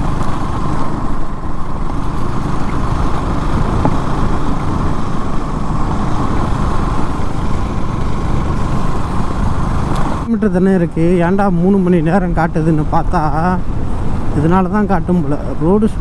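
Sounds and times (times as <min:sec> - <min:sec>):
road noise: 0:00.0 - 0:16.0
vehicle engine rumble: 0:00.0 - 0:16.0
wind: 0:00.0 - 0:16.0.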